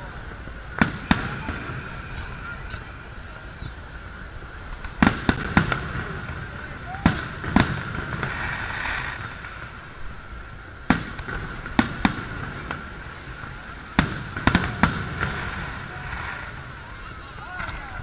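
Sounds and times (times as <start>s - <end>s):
fireworks bangs: 0.0s - 9.8s, 10.8s - 16.9s.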